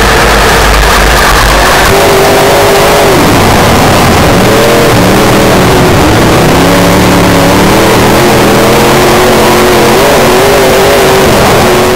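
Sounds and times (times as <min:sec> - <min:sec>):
race car engine running hard: 0:00.0 - 0:11.9.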